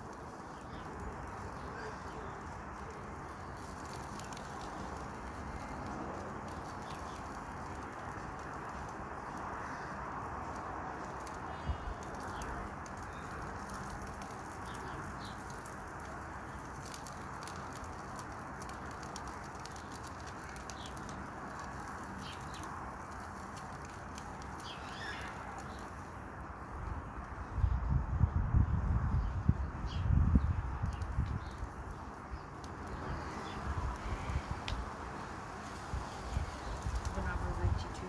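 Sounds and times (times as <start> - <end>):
campfire crackling: 0.0 - 27.4, 30.7 - 38.0.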